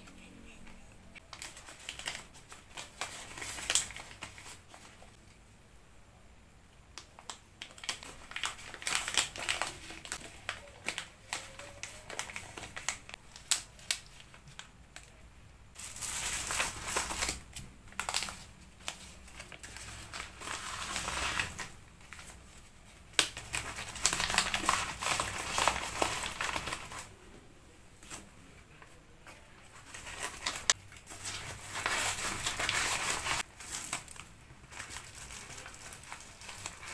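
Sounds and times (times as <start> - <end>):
plastic packaging crinkling: 1.2 - 5.2, 7.0 - 15.2, 15.8 - 27.1, 29.6 - 36.9.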